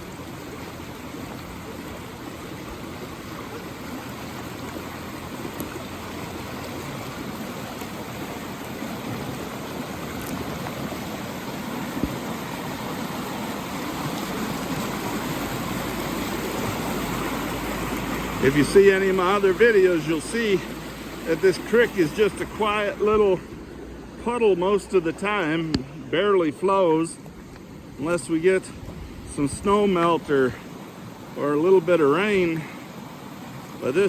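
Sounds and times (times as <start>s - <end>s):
creek rushing: 0.0s - 34.0s.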